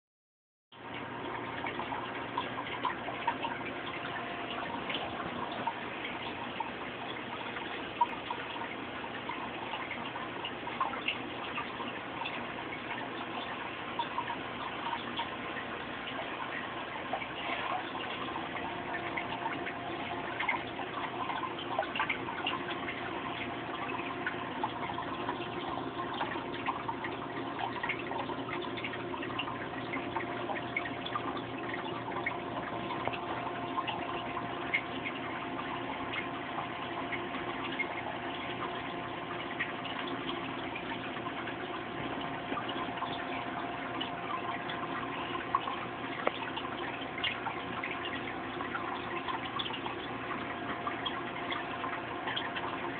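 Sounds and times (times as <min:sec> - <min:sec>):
faint constant hum: 0:00.7 - 0:52.9
water trickling and dripping: 0:00.7 - 0:52.9.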